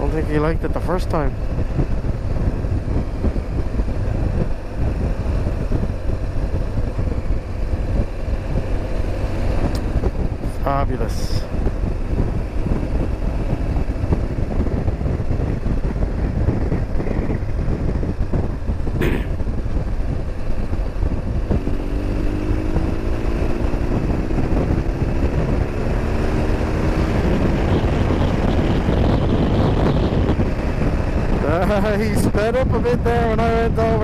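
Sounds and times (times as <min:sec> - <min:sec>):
motorcycle engine accelerating: 0:00.0 - 0:34.0
wind rush: 0:00.0 - 0:34.0.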